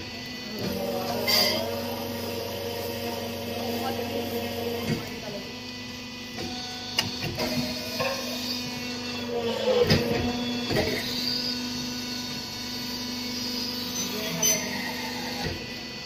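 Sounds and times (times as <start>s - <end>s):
brick-making machine humming: 0.0s - 16.0s.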